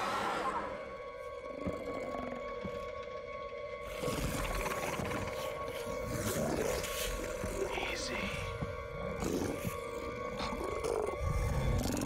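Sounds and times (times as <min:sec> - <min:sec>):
ominous drone: 0:00.0 - 0:12.0.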